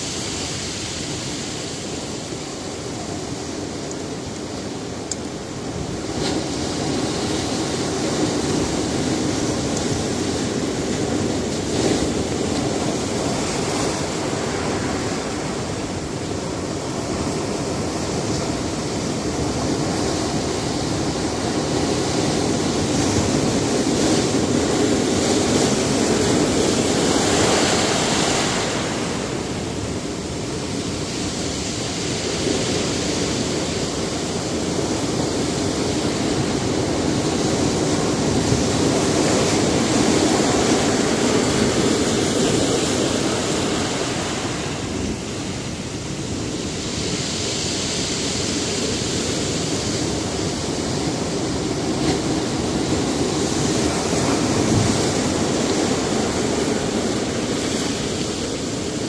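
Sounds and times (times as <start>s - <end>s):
waves breaking on rocky shore: 0.0s - 59.0s.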